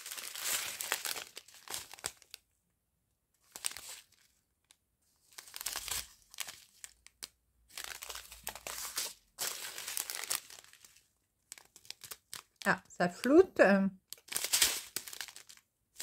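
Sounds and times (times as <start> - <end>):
plastic sachets crinkling: 0.0 - 2.4, 3.4 - 13.4, 14.0 - 16.0.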